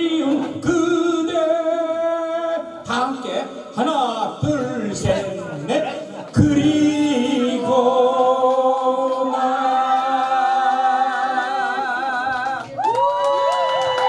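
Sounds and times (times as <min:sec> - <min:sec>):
man singing with vibrato: 0:00.0 - 0:12.6.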